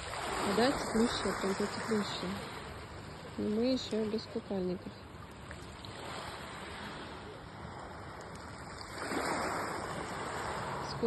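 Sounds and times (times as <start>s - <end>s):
small sea waves washing onto beach: 0.0s - 11.0s.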